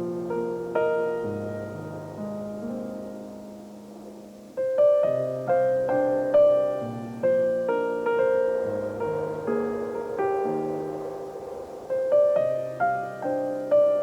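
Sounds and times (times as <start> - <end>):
solo piano melody: 0.0 - 14.0.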